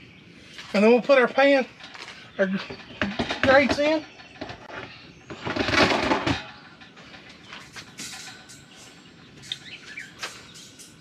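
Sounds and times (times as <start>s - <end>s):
wire grate scraping along rails: 0.7s - 11.0s.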